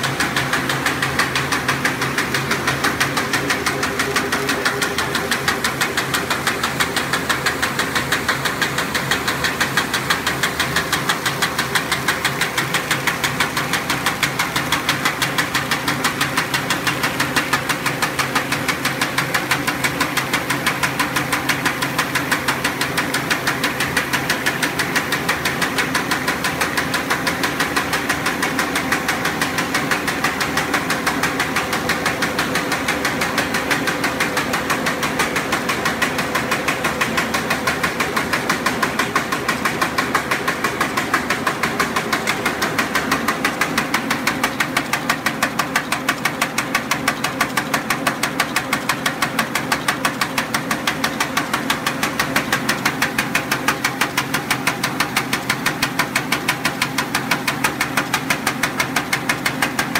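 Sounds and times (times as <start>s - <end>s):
constant machine hum: 0.0s - 59.9s
rapid machine clatter: 0.0s - 59.9s.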